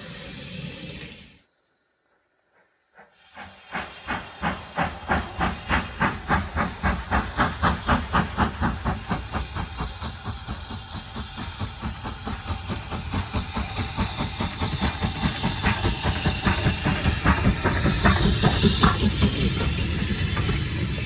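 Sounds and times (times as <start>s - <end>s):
steam locomotive exhaust beats: 2.5s - 21.0s.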